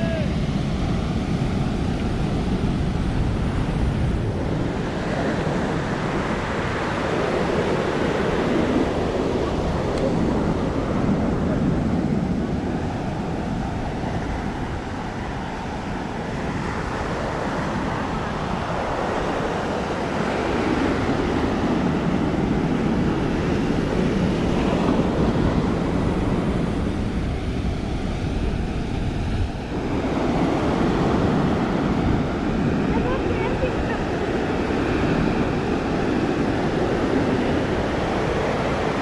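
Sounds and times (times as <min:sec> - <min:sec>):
surf washing onto beach: 0:00.0 - 0:39.0
wind buffeting microphone: 0:00.0 - 0:39.0.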